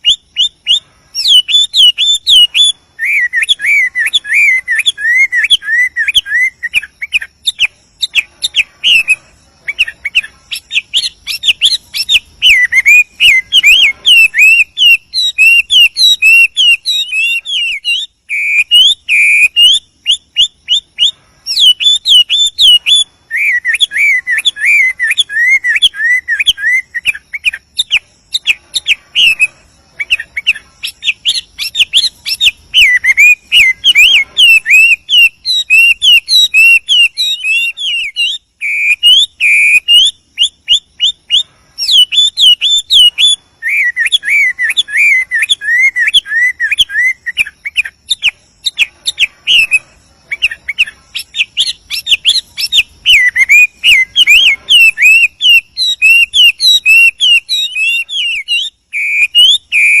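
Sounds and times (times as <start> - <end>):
bird singing whistled phrases: 0.0 - 60.0.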